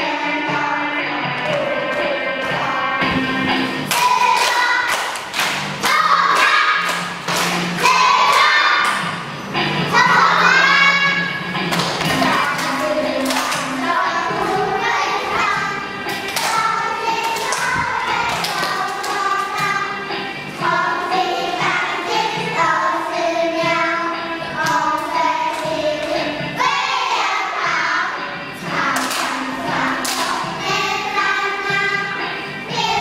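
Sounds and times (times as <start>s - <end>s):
children singing together: 0.0s - 33.0s
musical accompaniment: 0.0s - 33.0s.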